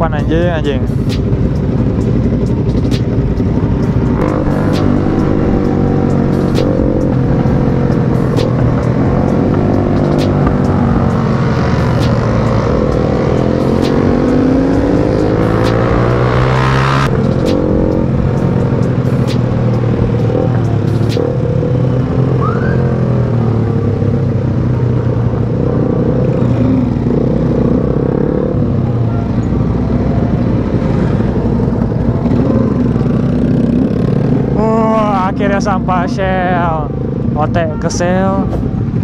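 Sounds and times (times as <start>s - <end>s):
scooter engine running: 1.2s - 35.5s.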